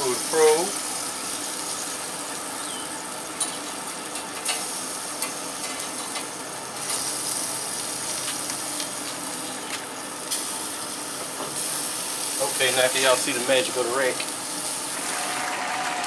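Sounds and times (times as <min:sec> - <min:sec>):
grill hissing: 0:00.0 - 0:16.0.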